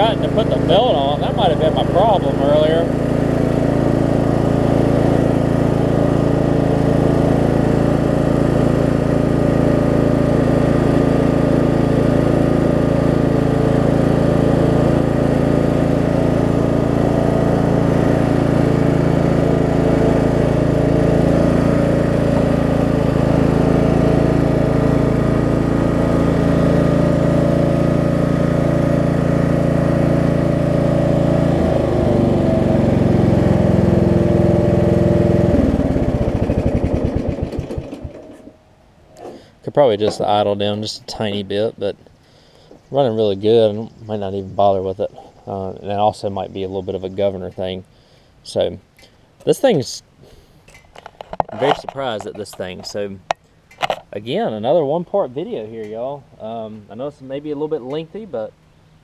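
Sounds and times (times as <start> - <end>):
lawn mower engine running: 0.0 - 56.8.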